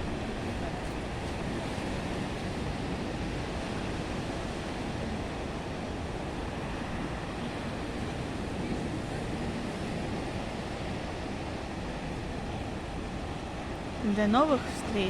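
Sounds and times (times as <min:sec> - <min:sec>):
waves washing: 0:00.0 - 0:15.0.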